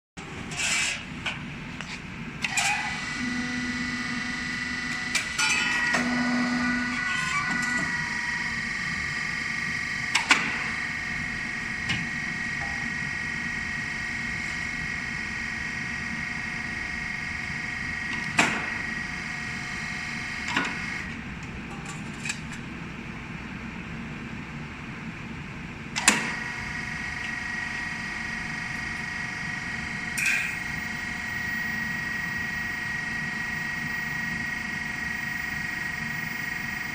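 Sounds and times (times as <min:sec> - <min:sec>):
welding machine whine: 0:02.4 - 0:21.1, 0:26.0 - 0:36.9.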